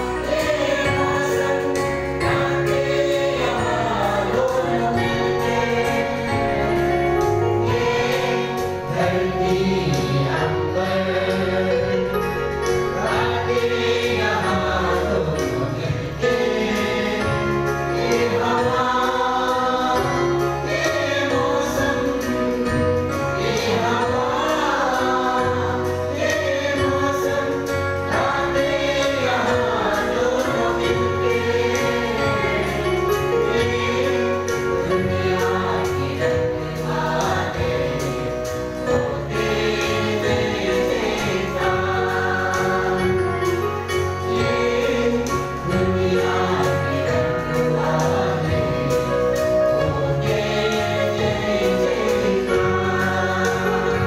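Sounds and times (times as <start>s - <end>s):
choir singing a gospel song: 0.0s - 54.0s.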